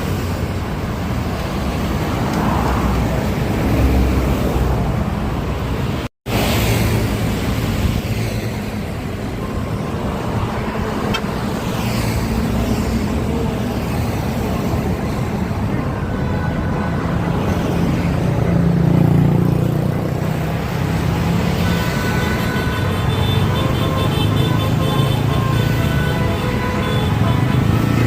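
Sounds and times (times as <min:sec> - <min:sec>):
large vehicles passing: 0:00.0 - 0:28.0.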